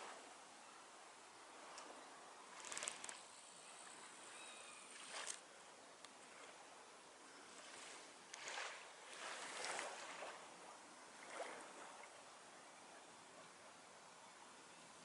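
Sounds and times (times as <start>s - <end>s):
small waves on sandy beach: 0.0s - 12.8s
steady background hiss: 0.0s - 15.0s.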